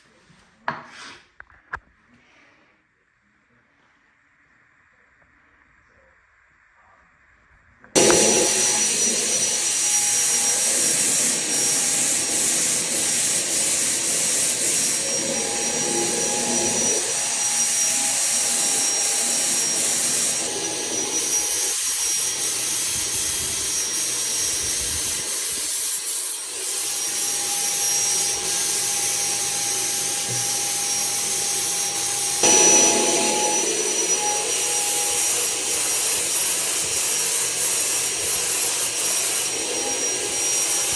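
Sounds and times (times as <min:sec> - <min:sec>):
rushing air hiss: 0:08.0 - 0:40.9
spray turbine high whine: 0:08.0 - 0:40.9.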